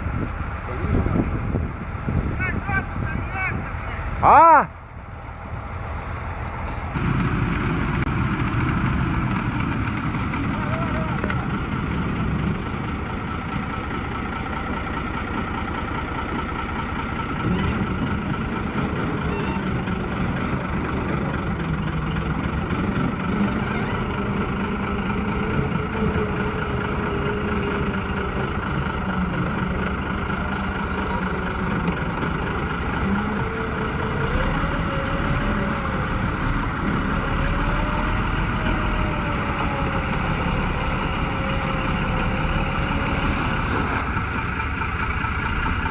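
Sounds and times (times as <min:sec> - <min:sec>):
tracked vehicle engine running: 0:00.0 - 0:45.9.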